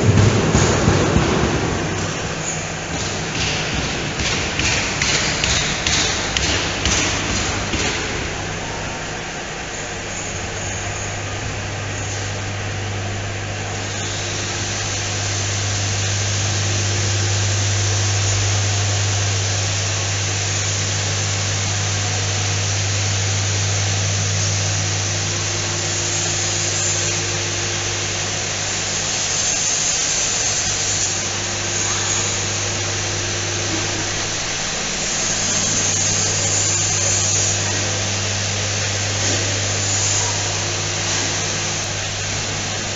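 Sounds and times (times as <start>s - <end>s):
machinery low hum: 0.0s - 42.9s.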